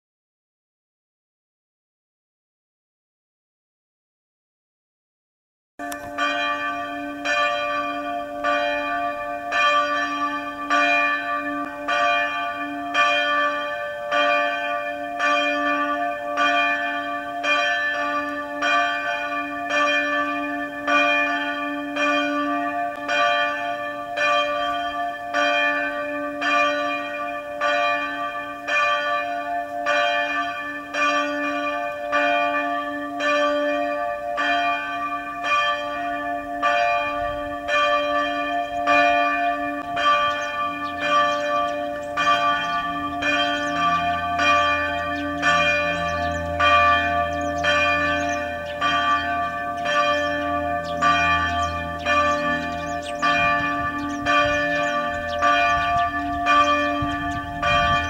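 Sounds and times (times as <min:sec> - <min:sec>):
church bell tolling: 0:05.8 - 0:58.0.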